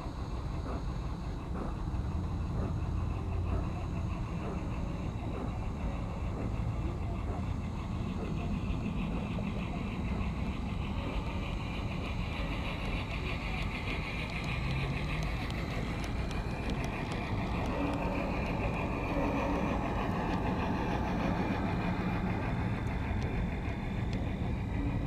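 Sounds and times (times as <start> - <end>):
model train rolling: 0.0 - 25.0
wheels clicking over rail joints: 0.0 - 25.0.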